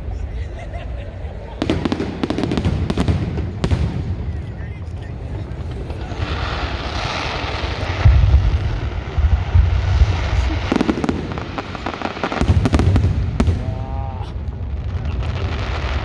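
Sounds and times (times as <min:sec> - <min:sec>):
fireworks booming explosions: 0:00.0 - 0:16.0
fireworks crackling bangs: 0:01.5 - 0:16.0.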